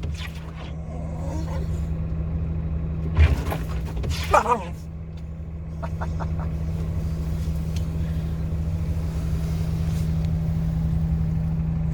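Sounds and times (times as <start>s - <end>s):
low hum with rumble: 0.0s - 11.9s.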